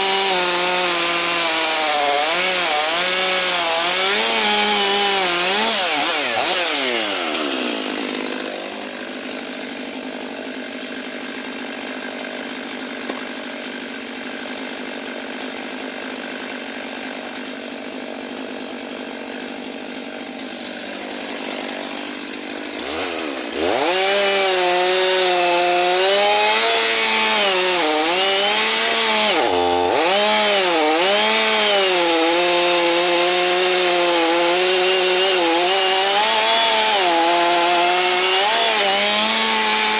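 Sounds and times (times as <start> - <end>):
chainsaw idling and revving: 0.0 - 39.9
chainsaw ripping wood: 0.0 - 39.9.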